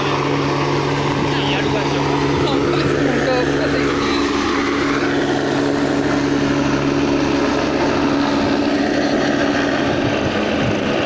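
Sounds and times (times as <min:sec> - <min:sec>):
helicopter flying low: 0:00.0 - 0:11.0.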